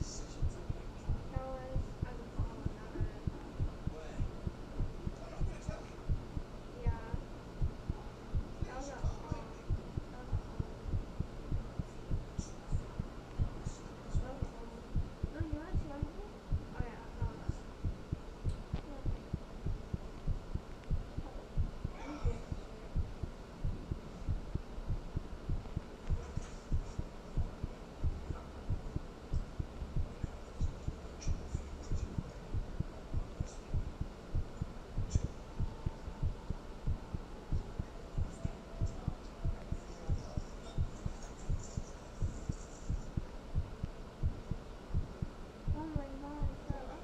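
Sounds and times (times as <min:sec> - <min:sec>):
heartbeat thumps: 0:00.0 - 0:47.0.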